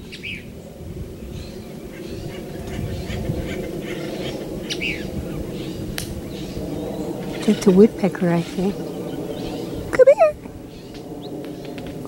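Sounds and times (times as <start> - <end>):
airplane drone overhead: 0.0 - 12.0
woodpeckers harsh calls: 1.4 - 12.0.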